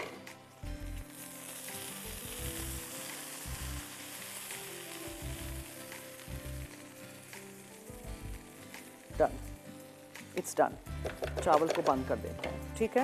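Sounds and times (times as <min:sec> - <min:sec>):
rice sizzling in a frying pan: 0:00.0 - 0:10.7.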